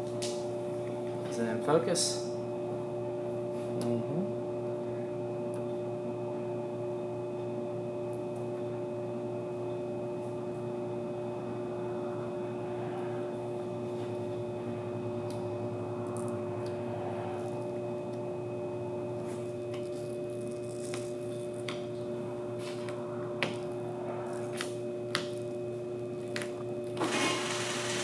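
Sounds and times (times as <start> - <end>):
electrical hum with steady tones: 0.0 - 28.0.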